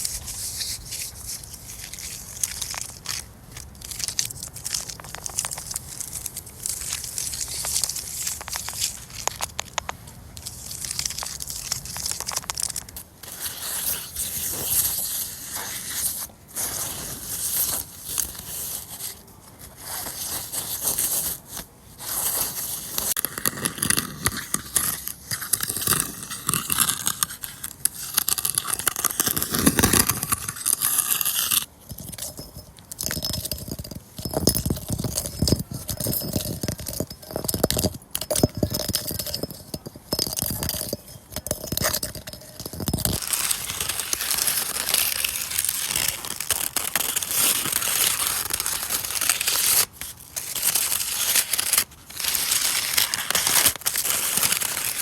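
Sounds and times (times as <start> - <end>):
tree bark being scraped: 0.0 - 31.7, 41.7 - 55.0.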